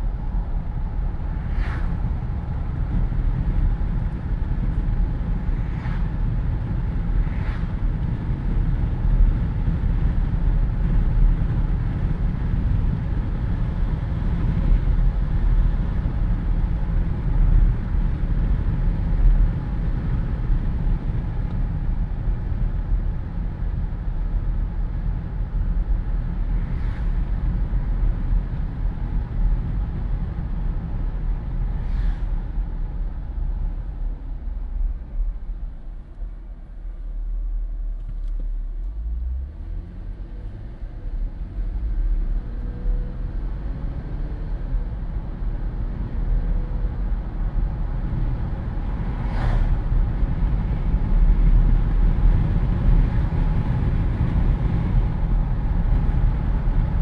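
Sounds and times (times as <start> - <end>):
road and engine rumble: 0.0 - 57.0
wind rushing through car windows: 0.0 - 57.0.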